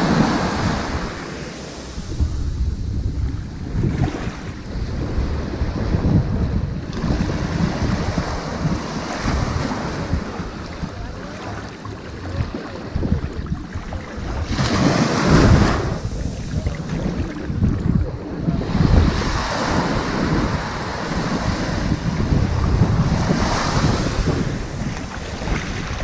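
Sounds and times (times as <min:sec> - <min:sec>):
ocean waves on sandy beach: 0:00.0 - 0:26.0
wind buffeting microphone: 0:00.0 - 0:26.0.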